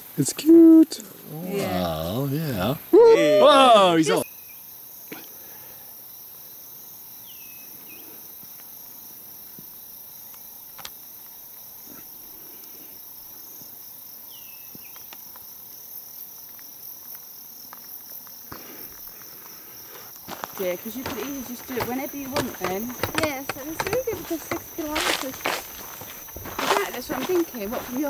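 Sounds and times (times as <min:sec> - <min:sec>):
chorus of insects: 0:00.0 - 0:28.0.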